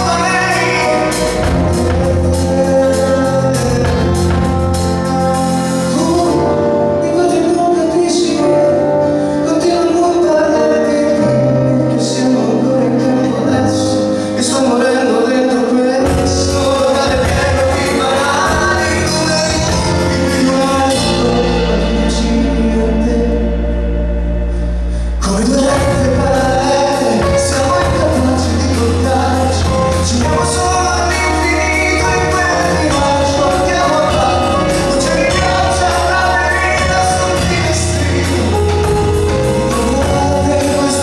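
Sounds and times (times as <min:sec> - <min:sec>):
live band playing: 0:00.0 - 0:41.0
person singing: 0:00.0 - 0:41.0
sustained bass notes: 0:00.0 - 0:41.0.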